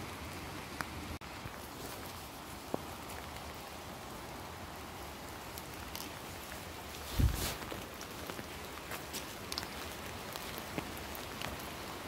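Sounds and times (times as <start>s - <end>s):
light rain on leaves: 0.0s - 12.0s.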